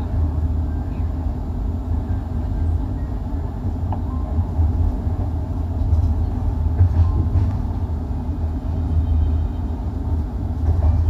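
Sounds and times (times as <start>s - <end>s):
train coach rumbling over rails: 0.0s - 11.0s.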